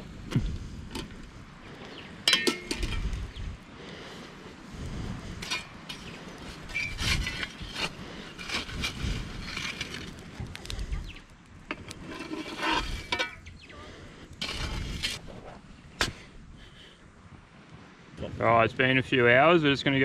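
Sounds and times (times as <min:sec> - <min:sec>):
shovel scraping coals: 0:00.2 - 0:16.9.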